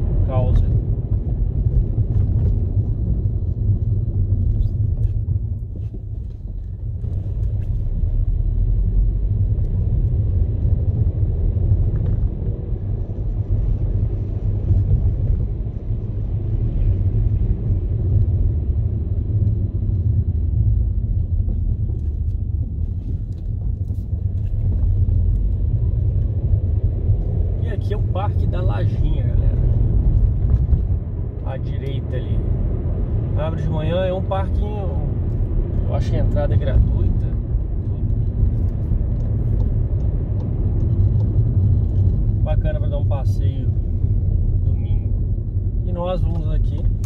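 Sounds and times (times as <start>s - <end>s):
car engine and tyre rumble: 0.0s - 47.0s.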